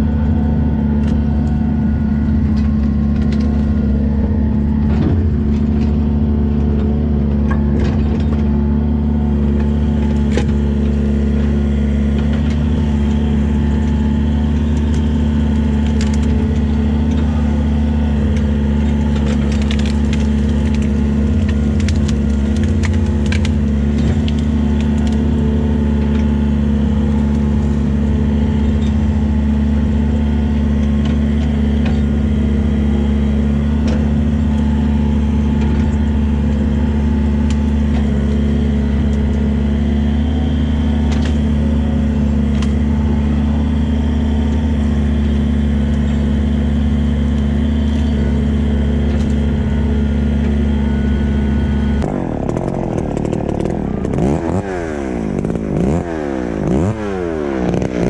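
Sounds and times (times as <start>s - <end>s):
diesel engine running: 0.0s - 58.0s
branches cracking and snapping: 0.1s - 58.0s.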